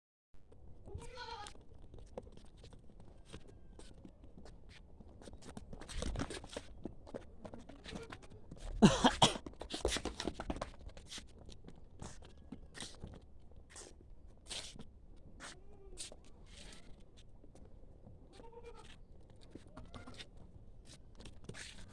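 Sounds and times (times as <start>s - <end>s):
goats chewing and crunching feed: 0.5s - 21.9s.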